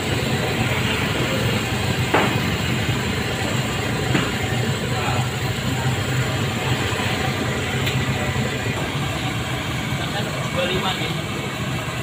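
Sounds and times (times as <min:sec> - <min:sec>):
dough sizzling in hot oil: 0:00.0 - 0:12.0
gas burner roar: 0:00.0 - 0:12.0.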